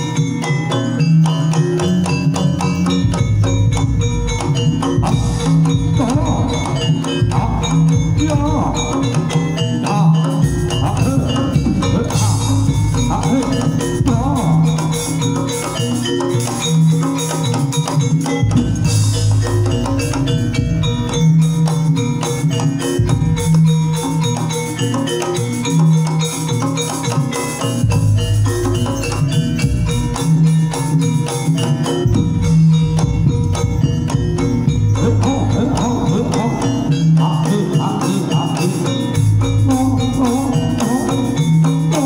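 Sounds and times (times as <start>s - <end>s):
drums: 0.0s - 42.0s
gamelan metallophone strikes: 0.0s - 42.0s.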